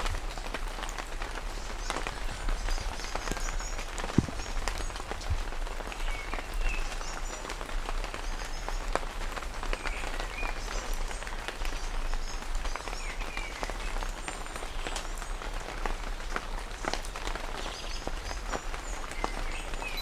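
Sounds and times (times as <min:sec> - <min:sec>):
raindrops tapping on surface: 0:00.0 - 0:20.0
steady rain: 0:00.0 - 0:20.0.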